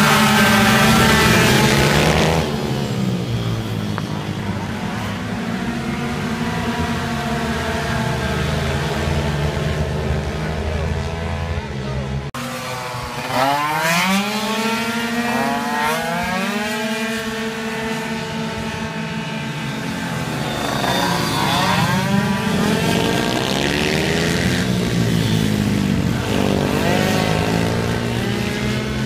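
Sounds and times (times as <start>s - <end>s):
scooter engines at high revs: 0.0s - 29.0s.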